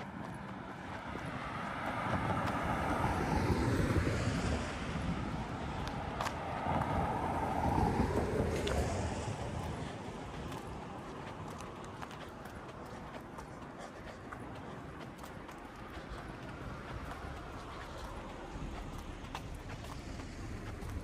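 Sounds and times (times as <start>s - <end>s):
vehicles passing on street: 0.0s - 21.0s.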